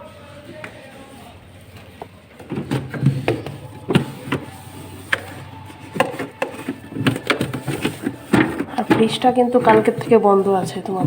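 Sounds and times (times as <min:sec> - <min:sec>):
wet cloth wiping refrigerator: 0:00.0 - 0:11.0.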